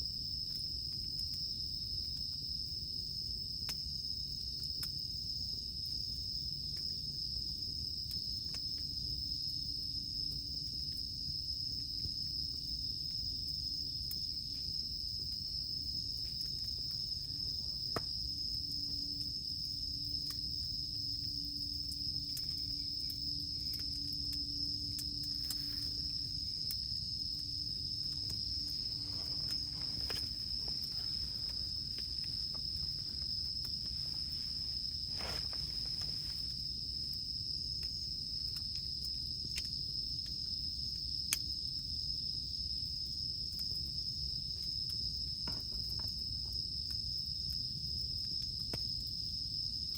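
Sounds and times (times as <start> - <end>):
campfire crackling and popping: 0.0 - 41.6
insects droning: 0.0 - 49.9.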